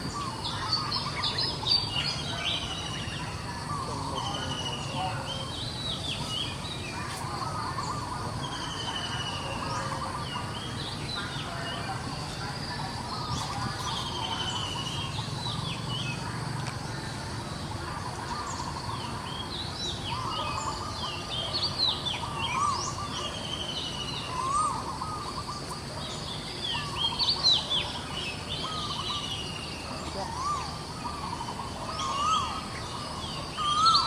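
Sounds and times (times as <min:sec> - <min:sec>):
birds chirping and calling: 0:00.0 - 0:34.0
steady background hiss: 0:00.0 - 0:34.0.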